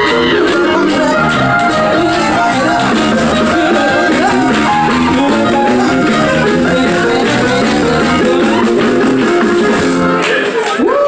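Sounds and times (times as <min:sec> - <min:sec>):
live band music: 0:00.0 - 0:10.8.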